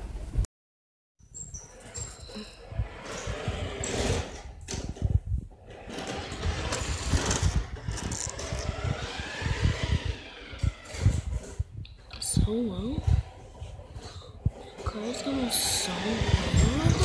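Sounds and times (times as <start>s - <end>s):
toy car whirring on wooden floor: 1.5s - 4.8s, 5.6s - 12.3s, 13.0s - 17.0s.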